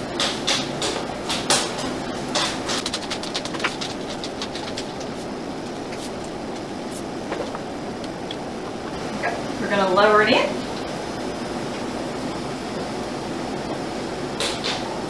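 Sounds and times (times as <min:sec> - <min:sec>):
steaming canner hissing: 0:00.0 - 0:15.0.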